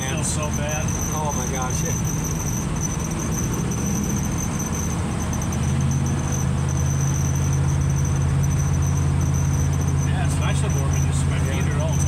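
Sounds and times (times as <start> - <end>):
road noise: 0.0 - 12.0
truck engine droning: 0.0 - 12.0.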